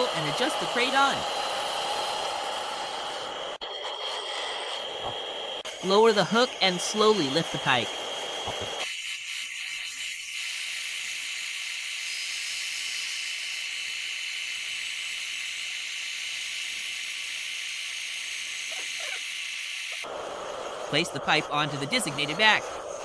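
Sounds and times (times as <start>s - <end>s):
high-pitched hiss: 0.0s - 23.0s.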